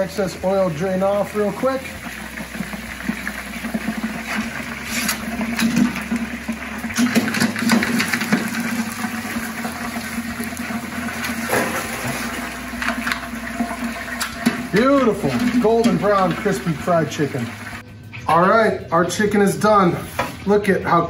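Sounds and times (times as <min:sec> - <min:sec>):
frying oil bubbling and sizzling: 0:00.0 - 0:17.8.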